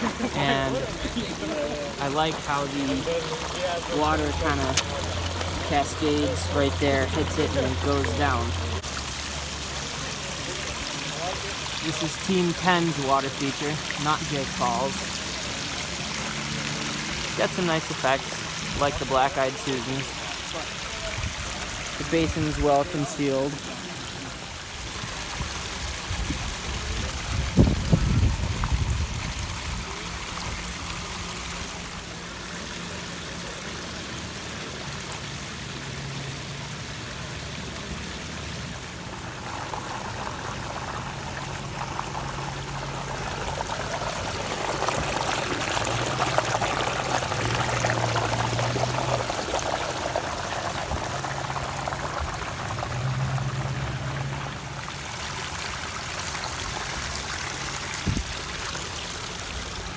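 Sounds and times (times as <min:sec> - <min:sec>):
water splashing over stones: 0:00.0 - 0:59.9.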